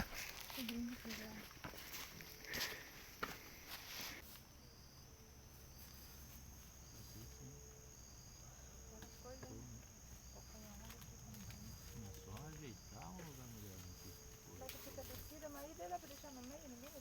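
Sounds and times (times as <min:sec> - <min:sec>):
faint insects trilling: 0:00.0 - 0:17.0.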